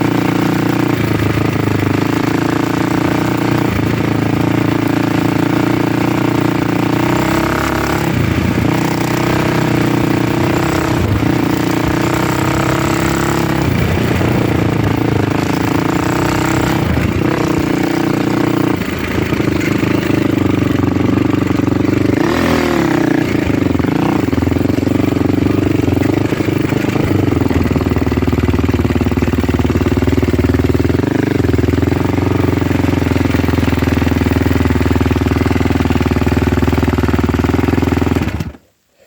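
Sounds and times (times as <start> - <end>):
vehicle engine running: 0.0 - 38.6.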